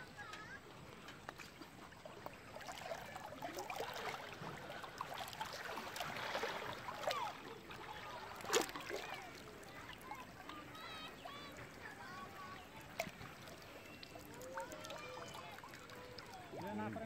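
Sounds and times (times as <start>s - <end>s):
water sloshing and gurgling: 0.0s - 17.0s.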